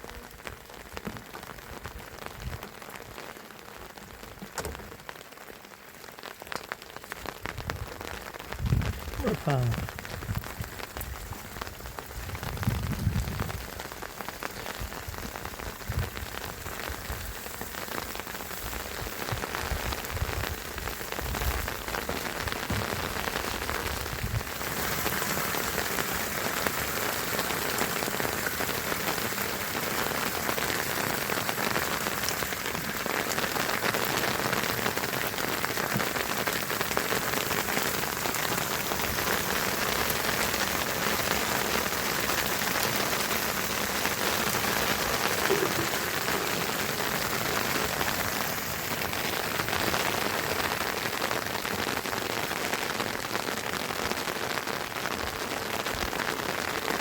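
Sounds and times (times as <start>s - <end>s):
rain pattering on surfaces: 0.0s - 57.0s.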